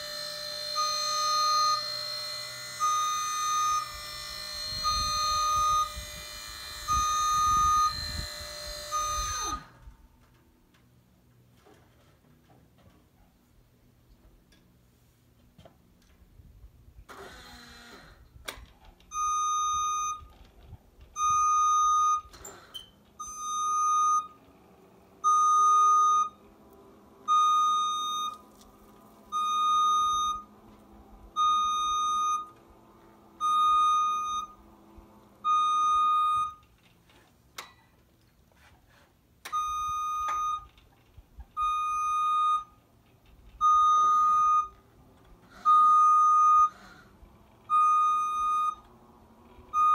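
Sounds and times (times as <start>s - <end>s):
scissor lift alarm beeping: 0.0s - 10.4s, 17.1s - 37.8s, 39.4s - 49.9s.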